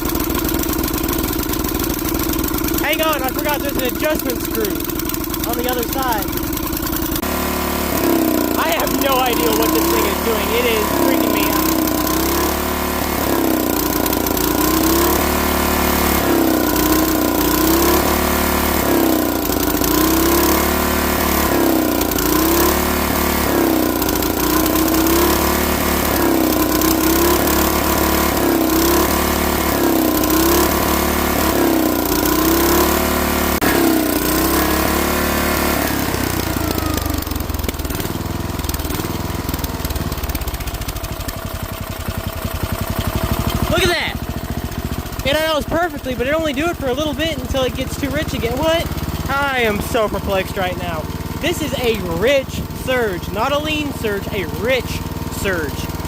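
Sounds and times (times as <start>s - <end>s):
lawn mower engine surging: 0.0s - 56.0s.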